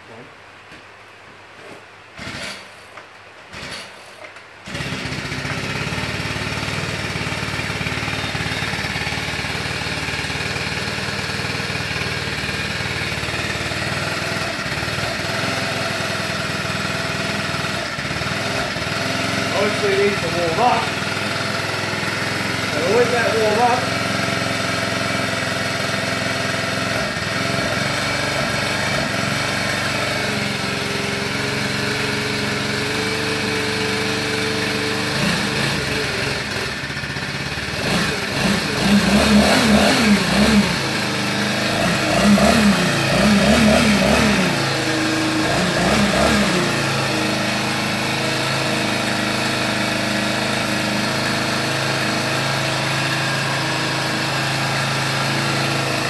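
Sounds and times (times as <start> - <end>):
leaf blower engine idling and revving: 1.6 - 56.0.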